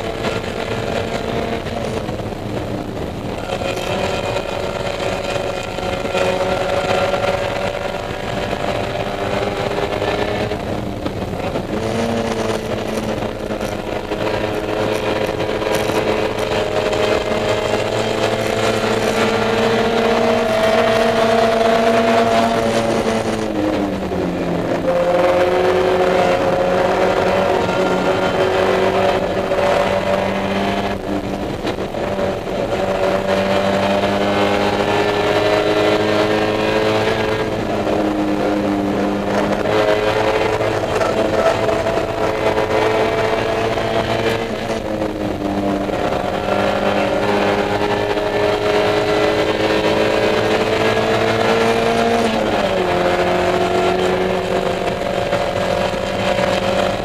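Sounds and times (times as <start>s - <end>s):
car engine revving under throttle: 0.0s - 57.0s.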